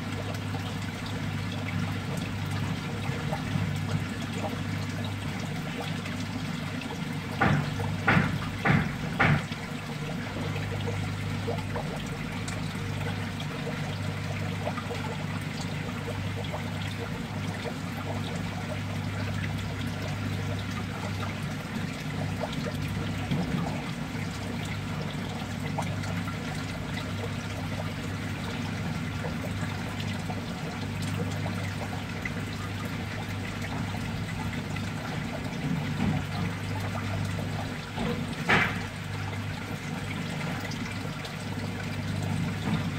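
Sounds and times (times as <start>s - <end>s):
water trickling and pouring: 0.0s - 42.9s.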